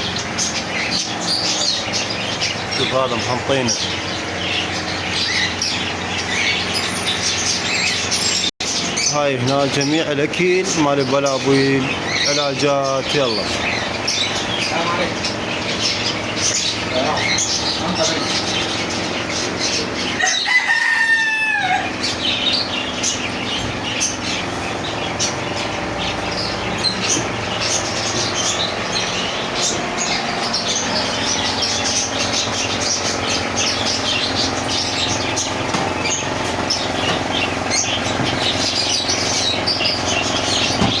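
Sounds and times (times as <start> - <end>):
caged birds chirping: 0.0 - 41.0
steady low hum: 0.0 - 41.0.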